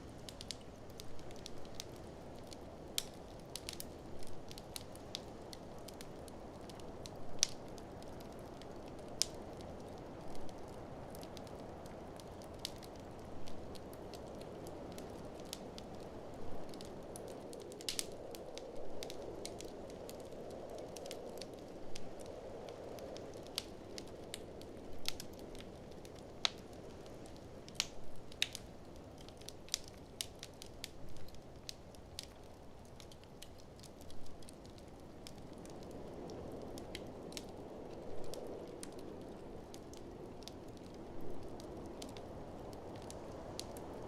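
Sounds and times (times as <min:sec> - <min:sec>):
blizzard wind: 0:00.0 - 0:44.0
wood fire crackling and popping: 0:00.0 - 0:44.0.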